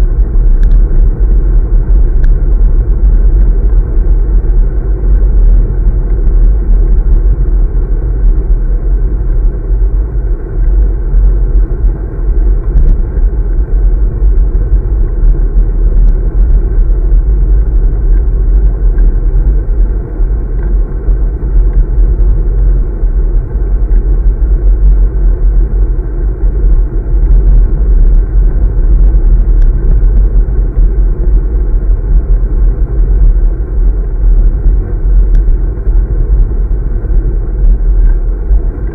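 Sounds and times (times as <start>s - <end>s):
road noise rumble: 0.0s - 38.9s
wind buffeting microphone: 0.0s - 38.9s.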